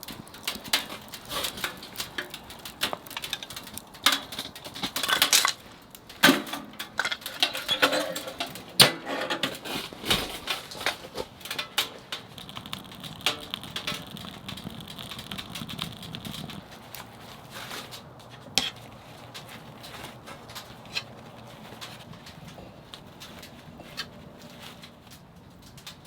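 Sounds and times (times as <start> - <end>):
firewood crackling in stove: 0.0 - 26.0.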